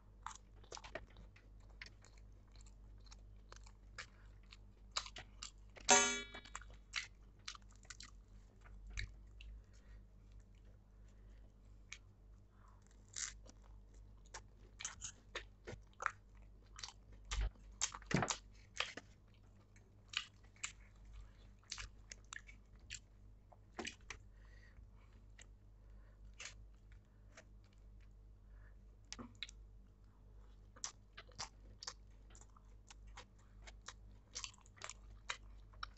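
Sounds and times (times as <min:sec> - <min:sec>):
person chewing food: 0:00.1 - 0:35.9.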